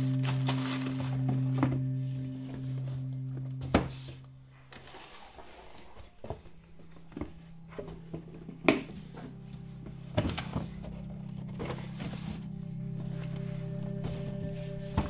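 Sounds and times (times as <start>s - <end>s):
steady low hum: 0.0s - 4.8s, 6.4s - 15.0s.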